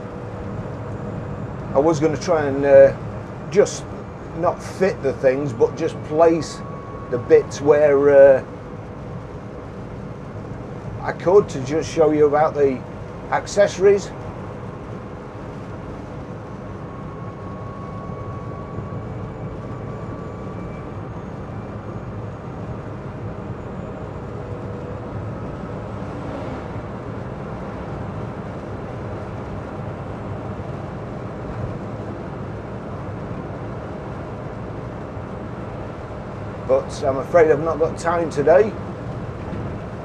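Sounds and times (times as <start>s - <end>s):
road and tyre noise: 0.0s - 40.0s.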